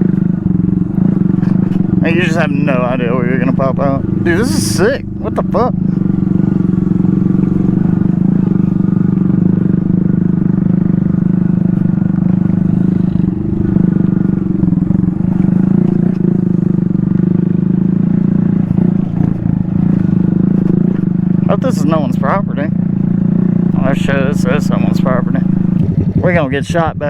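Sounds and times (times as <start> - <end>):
small motorcycle engine running: 0.0 - 27.0.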